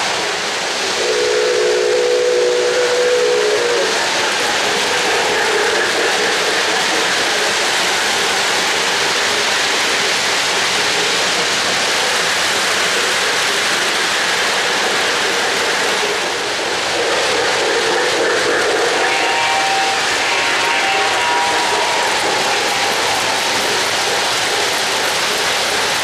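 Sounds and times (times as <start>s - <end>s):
model train wheels rumbling: 0.0s - 26.0s.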